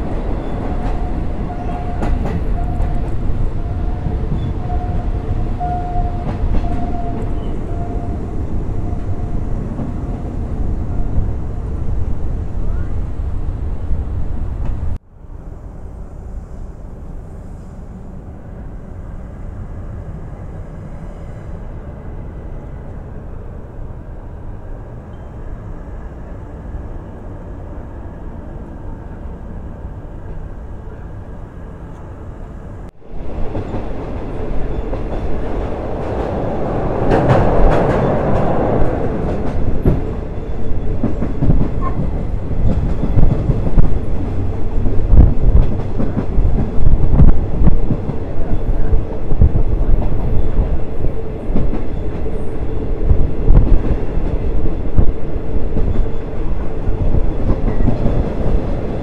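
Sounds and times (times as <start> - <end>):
train rumble from aboard: 0.0 - 59.0.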